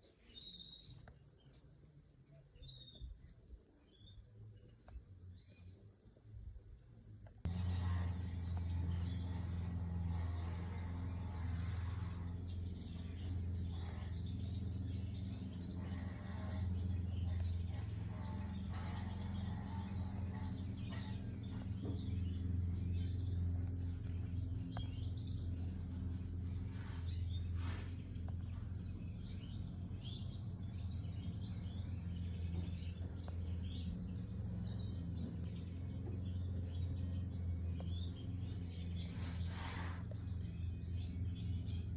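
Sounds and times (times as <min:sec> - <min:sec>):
steady low hum: 0:03.0 - 0:41.9
goldfinches chirping: 0:04.9 - 0:41.9.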